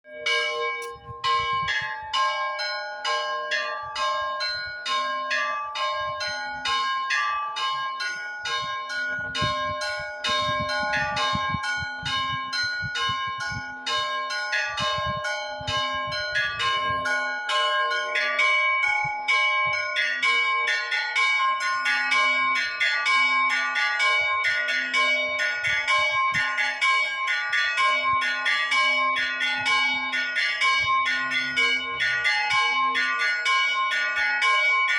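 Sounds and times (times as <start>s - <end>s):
low church bell: 0.0s - 34.9s
small church bells pealing: 0.0s - 34.9s.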